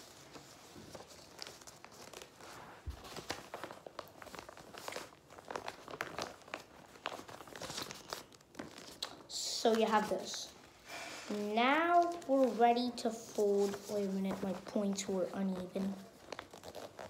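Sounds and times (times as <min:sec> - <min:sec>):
paper being folded and creased: 0:00.0 - 0:17.0.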